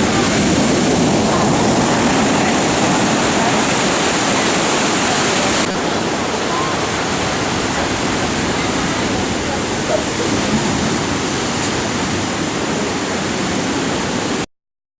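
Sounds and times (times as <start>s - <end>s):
waves breaking on stormy sea: 0.0s - 14.5s.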